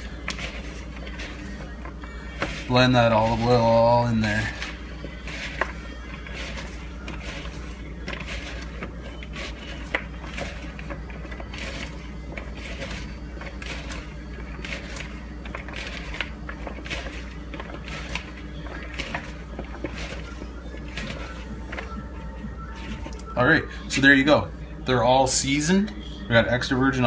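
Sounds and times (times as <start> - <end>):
fries rustling in plastic bowl: 0.0 - 24.3
steady low hum: 0.0 - 27.0.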